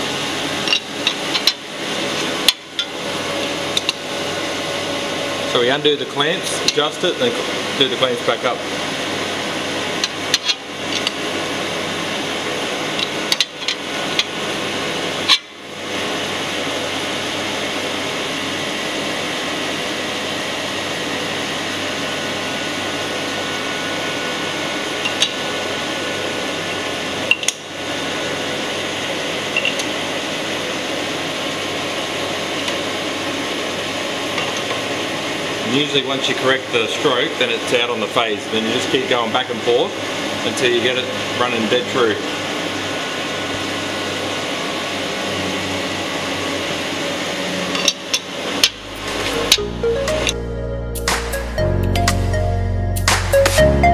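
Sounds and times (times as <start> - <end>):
steady machine hum: 0.0 - 53.9.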